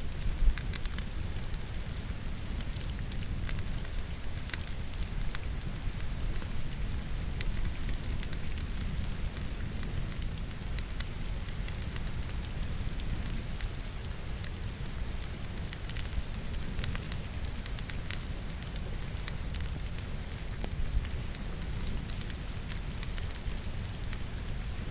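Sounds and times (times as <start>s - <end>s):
firewood crackling and popping: 0.0s - 24.9s
rain falling: 0.0s - 24.9s.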